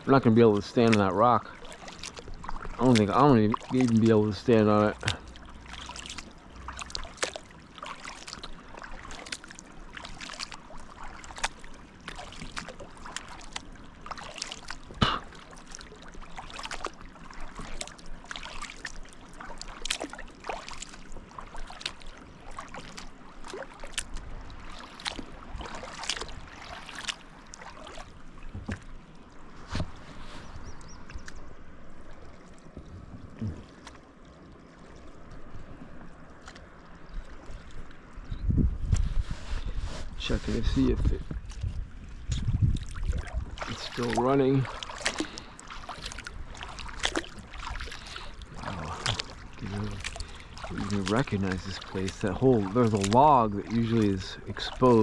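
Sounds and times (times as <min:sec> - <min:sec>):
water splashing around a kayak: 0:00.0 - 0:55.0.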